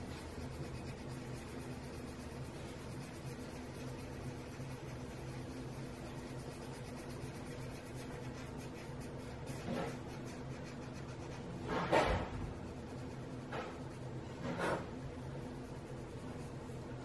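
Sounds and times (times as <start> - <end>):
pencil rubbing on paper: 0.0 - 17.0.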